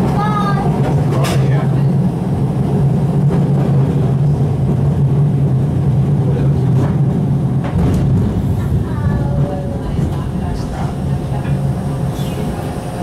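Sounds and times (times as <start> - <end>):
streetcar hum: 0.0 - 13.0
wheels rumbling on rails: 0.0 - 13.0.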